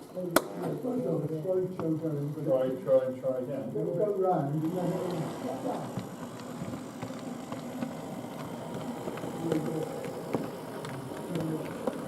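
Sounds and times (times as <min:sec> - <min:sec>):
small electric motor whirring: 0:00.6 - 0:12.0.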